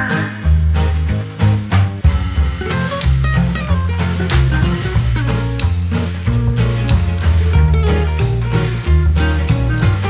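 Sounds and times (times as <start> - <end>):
upbeat music with bass and drums: 0.0 - 10.0.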